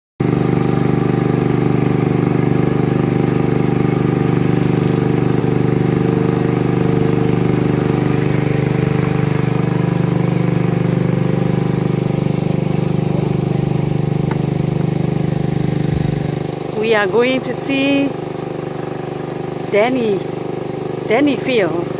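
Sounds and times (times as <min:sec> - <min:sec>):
boat engine running: 0:00.2 - 0:21.9.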